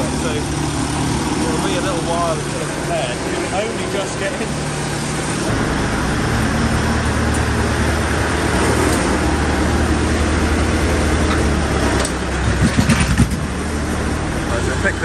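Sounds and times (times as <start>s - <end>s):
tractor diesel engine passing: 0.0s - 15.0s.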